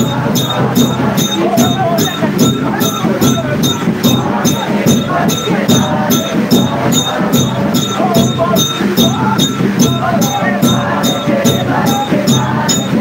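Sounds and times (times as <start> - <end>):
sharp percussion beat: 0.0 - 13.0
voices singing: 0.0 - 13.0.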